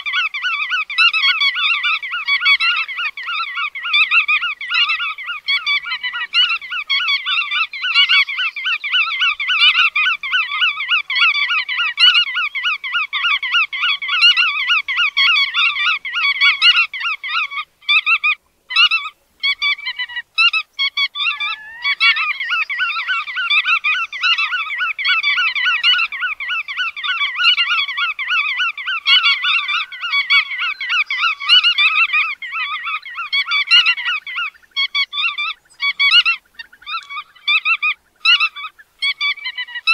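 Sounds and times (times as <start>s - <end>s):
flock of shorebirds calling: 0.0s - 39.9s.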